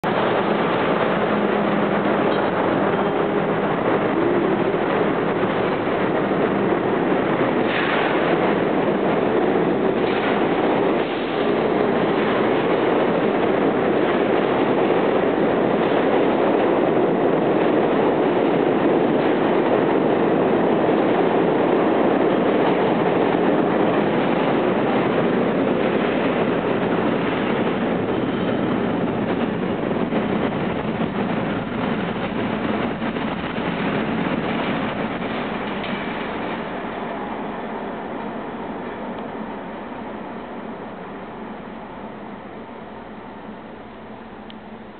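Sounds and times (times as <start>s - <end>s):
subway train rumbling on rails: 0.0s - 44.9s.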